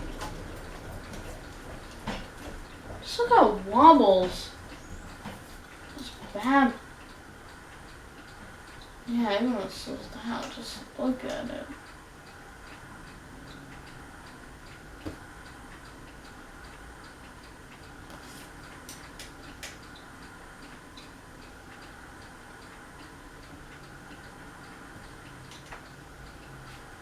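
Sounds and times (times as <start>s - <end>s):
ceiling fan coasting down: 0.0s - 27.0s
fan ticking lightly: 0.0s - 27.0s.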